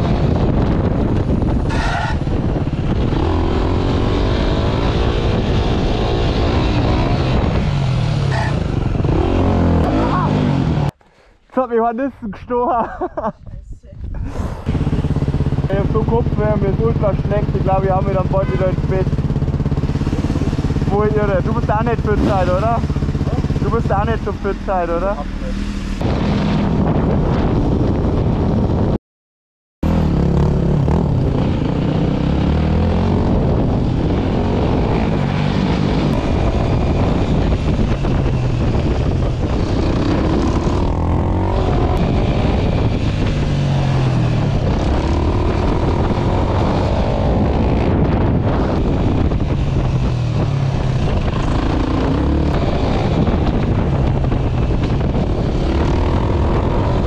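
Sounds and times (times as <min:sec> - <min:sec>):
motorcycle engine revving: 0:00.0 - 0:11.0, 0:14.5 - 0:29.0, 0:29.8 - 0:57.0
wind rushing over microphone: 0:00.0 - 0:11.0, 0:13.2 - 0:29.0, 0:29.8 - 0:57.0.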